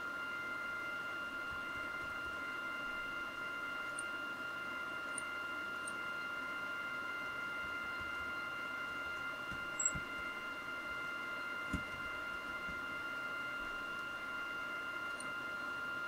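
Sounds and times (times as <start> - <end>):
constant high whine: 0.0 - 16.0.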